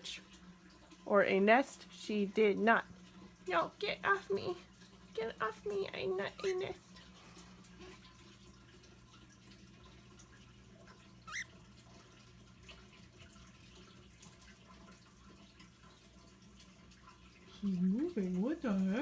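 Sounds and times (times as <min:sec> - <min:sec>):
water trickling and dripping: 0:00.0 - 0:19.0.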